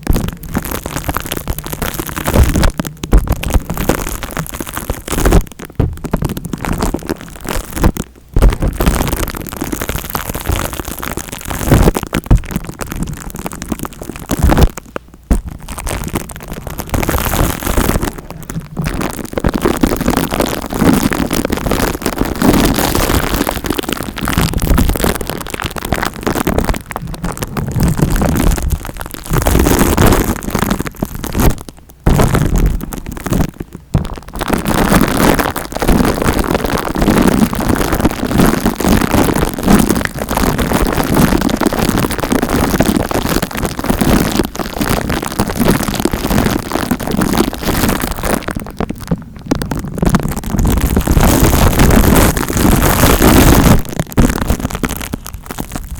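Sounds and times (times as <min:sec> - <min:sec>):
scratching and rubbing on microphone: 0:00.0 - 0:55.9.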